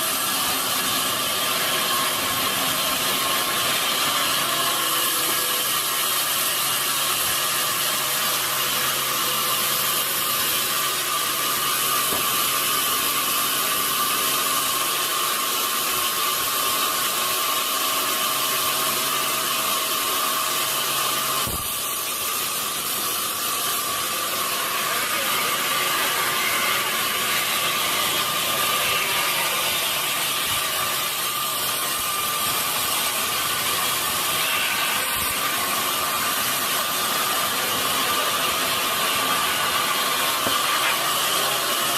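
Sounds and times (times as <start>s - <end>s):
sawmill machinery whining: 0.0s - 41.9s.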